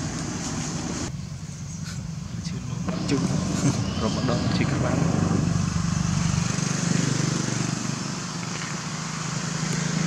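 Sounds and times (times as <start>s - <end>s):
constant hiss: 0.0s - 10.0s
low motor hum: 0.0s - 10.0s.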